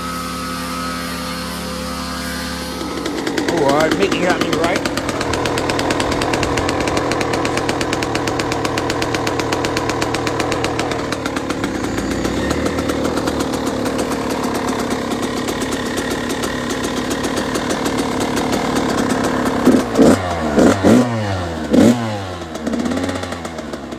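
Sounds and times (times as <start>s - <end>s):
two-stroke engine revving: 0.0s - 23.9s.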